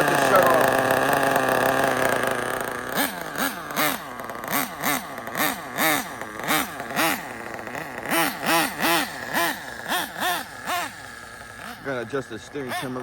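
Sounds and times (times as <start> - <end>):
nitro engine idling and revving: 0.0 - 13.0.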